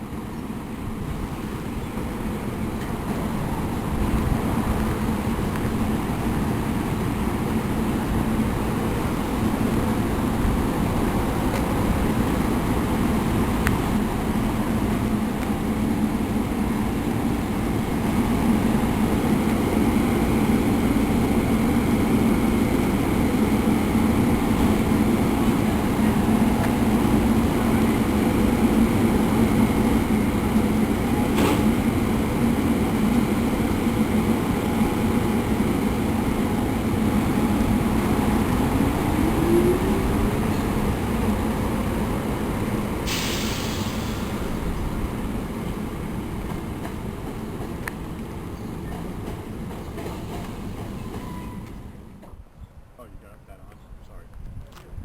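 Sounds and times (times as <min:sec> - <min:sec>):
train running with low hum: 0:00.0 - 0:55.0.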